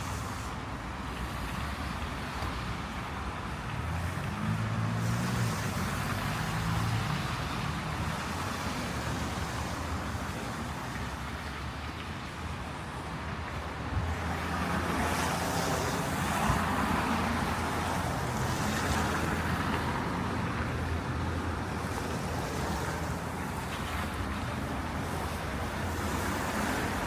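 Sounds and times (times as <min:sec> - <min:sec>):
low engine hum of traffic: 0:00.0 - 0:27.0
vehicle tyre noise: 0:00.0 - 0:27.0.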